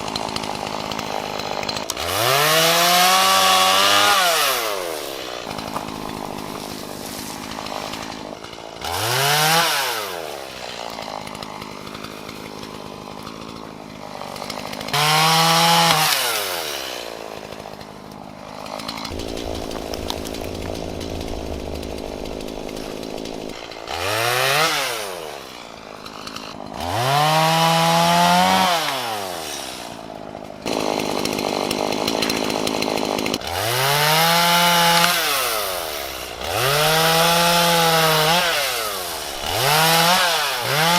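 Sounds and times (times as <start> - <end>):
chainsaw revving: 0.0 - 40.9
chainsaw sawing wood: 0.0 - 40.9.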